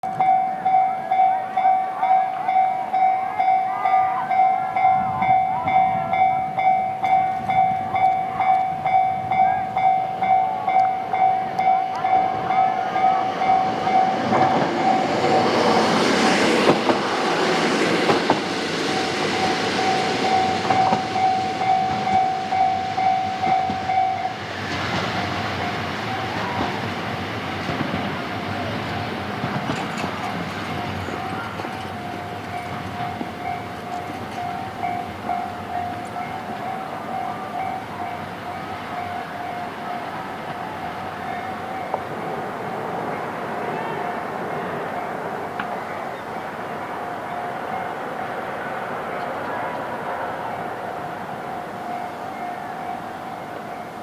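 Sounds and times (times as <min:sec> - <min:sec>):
level-crossing alarm bell ringing: 0:00.0 - 0:16.5, 0:18.8 - 0:27.1, 0:28.2 - 0:48.0, 0:51.3 - 0:54.0
train rumble and wheel noise: 0:00.0 - 0:54.0.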